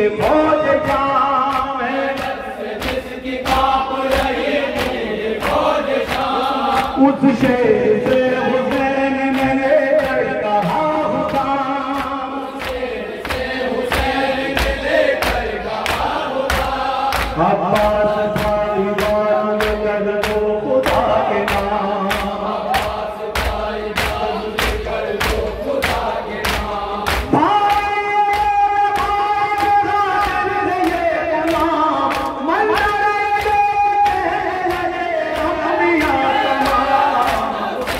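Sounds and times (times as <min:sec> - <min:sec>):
men chanting: 0:00.0 - 0:37.9
person singing through a microphone: 0:00.0 - 0:37.9.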